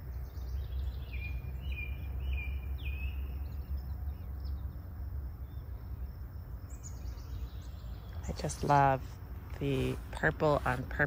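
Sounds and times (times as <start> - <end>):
low steady rumble: 0.0 - 11.0
songbirds calling: 0.0 - 11.0.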